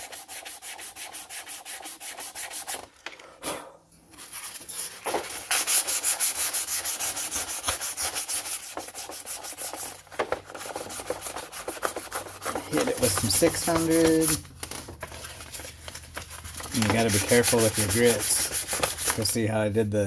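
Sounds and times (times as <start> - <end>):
sandpaper rubbing on plastic: 0.0 - 2.9, 4.2 - 14.4, 16.3 - 19.4.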